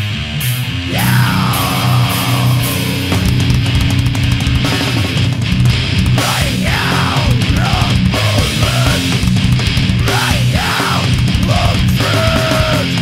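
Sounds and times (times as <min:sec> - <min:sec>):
distorted heavy metal band: 0:00.0 - 0:13.0
high sliding guitar pitch: 0:00.0 - 0:13.0.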